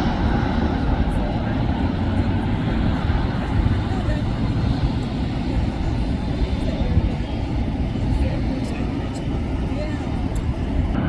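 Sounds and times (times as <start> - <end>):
distant jet aircraft: 0.0 - 11.0
road vehicles: 0.0 - 11.0.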